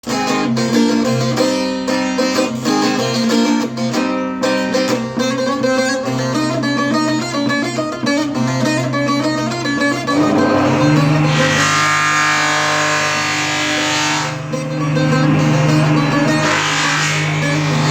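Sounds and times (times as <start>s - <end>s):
long-necked lute plucked melody: 0.0s - 12.4s, 14.3s - 17.9s.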